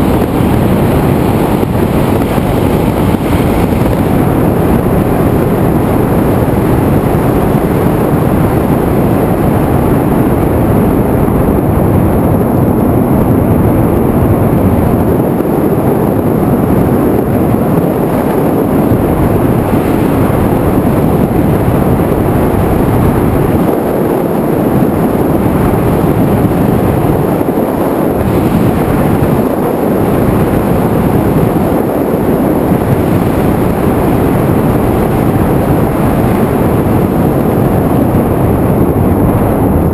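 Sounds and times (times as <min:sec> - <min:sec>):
aircraft motor noise: 0:00.0 - 0:39.9
wind buffeting microphone: 0:00.0 - 0:39.9.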